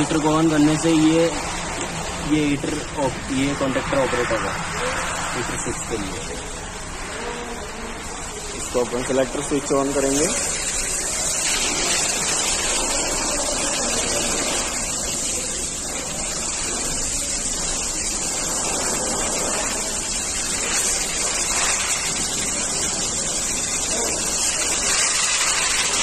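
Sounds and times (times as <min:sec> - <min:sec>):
factory machinery running: 0:00.0 - 0:26.0.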